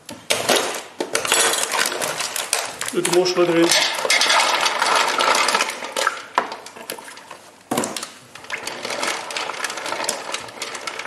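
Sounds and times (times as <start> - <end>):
mussels clattering and splashing: 1.1 - 11.0.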